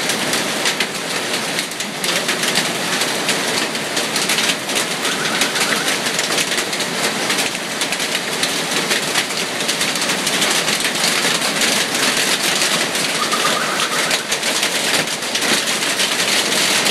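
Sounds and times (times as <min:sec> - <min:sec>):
hail and heavy rain pelting: 0:00.0 - 0:16.9.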